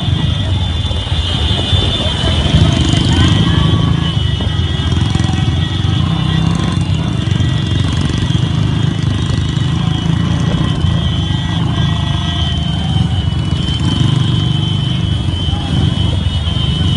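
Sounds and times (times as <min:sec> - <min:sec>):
motorcycle engines running: 0:00.0 - 0:16.9.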